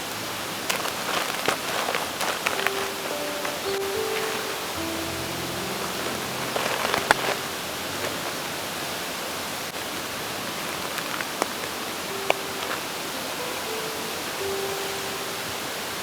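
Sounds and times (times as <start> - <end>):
mountain stream rushing: 0.0 - 16.0
soft background music: 0.1 - 16.0.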